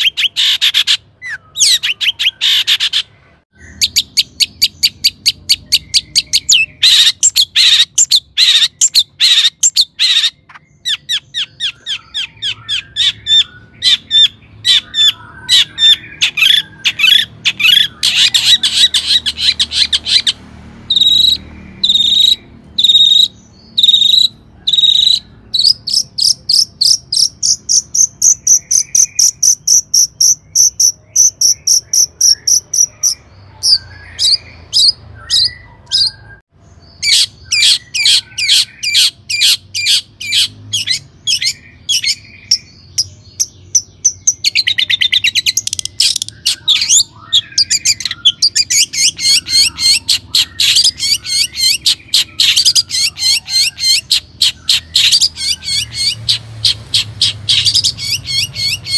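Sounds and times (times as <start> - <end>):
bird singing trills: 0.0 - 58.9.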